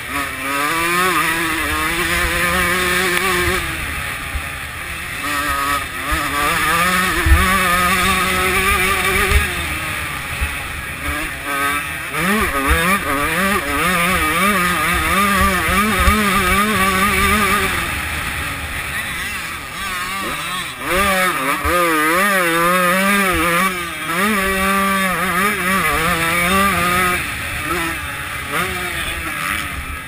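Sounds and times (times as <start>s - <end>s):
two-stroke motorbike engine revving: 0.0s - 30.0s.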